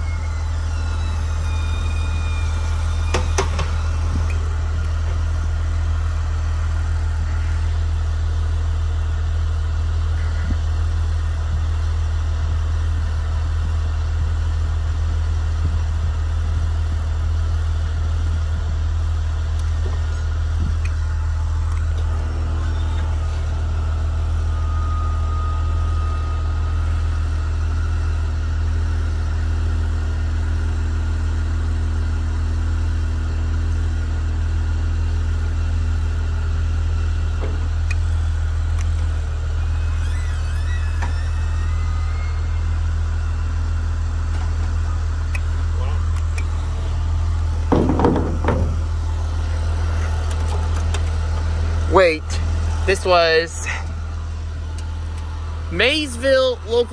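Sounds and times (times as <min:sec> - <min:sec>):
bus engine idling: 0:00.0 - 0:56.9
hydraulic pump humming: 0:00.0 - 0:56.9.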